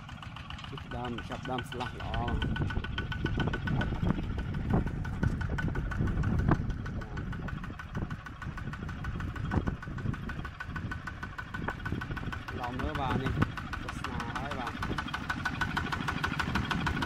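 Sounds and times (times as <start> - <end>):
diesel engine chugging: 0.0 - 17.0
sharp engine knocks: 0.4 - 17.0.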